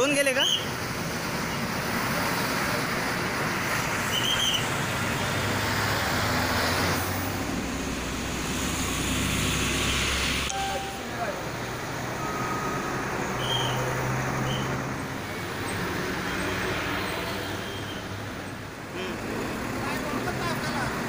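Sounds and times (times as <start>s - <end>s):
buses and trucks idling: 0.0s - 21.0s.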